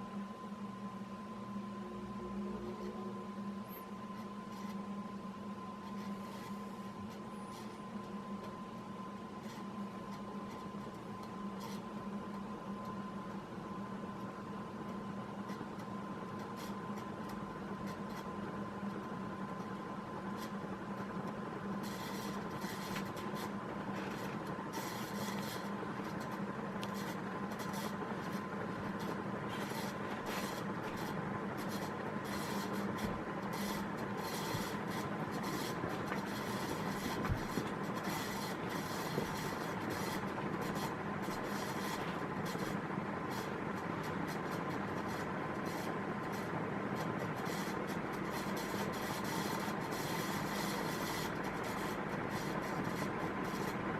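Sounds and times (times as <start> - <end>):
ceiling fan running: 0.0 - 53.9.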